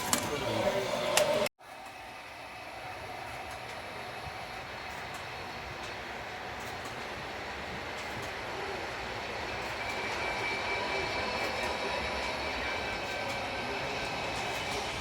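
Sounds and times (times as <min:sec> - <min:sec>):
faint high whine: 0:00.4 - 0:15.0
model train wheels rumbling on rail: 0:02.6 - 0:15.0.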